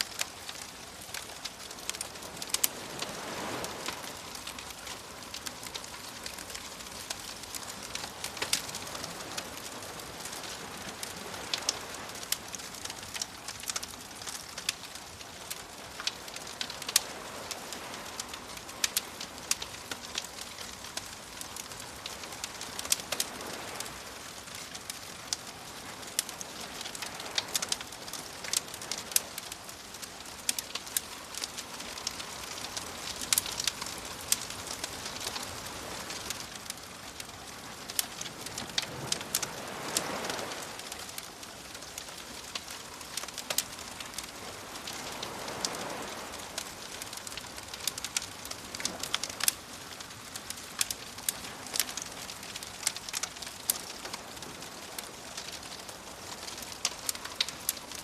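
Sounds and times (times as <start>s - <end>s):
small waves washing in: 0.0s - 58.0s
wood fire crackling and popping: 0.0s - 58.0s.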